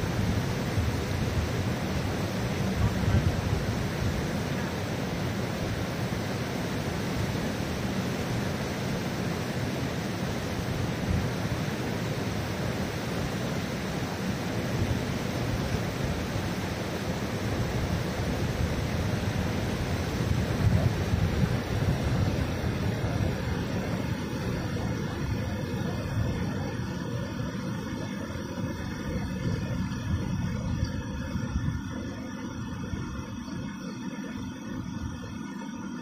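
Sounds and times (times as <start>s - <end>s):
river rushing over rocks: 0.0s - 36.0s.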